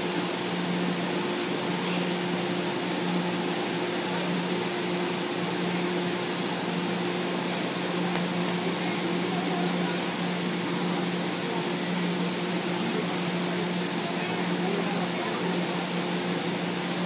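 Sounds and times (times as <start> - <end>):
metro train humming at platform: 0.0 - 17.0.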